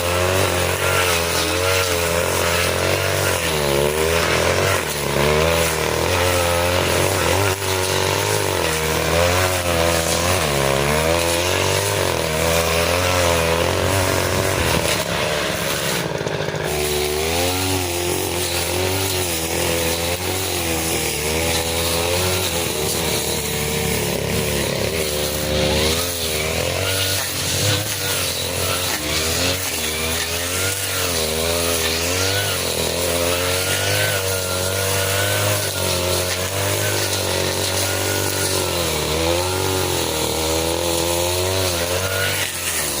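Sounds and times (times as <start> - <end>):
brush cutter engine running hard: 0.0 - 43.0.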